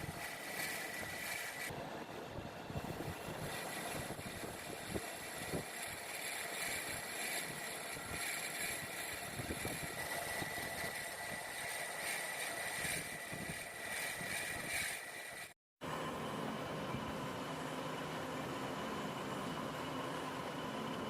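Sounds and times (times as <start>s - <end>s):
machine whining: 0.0s - 21.0s.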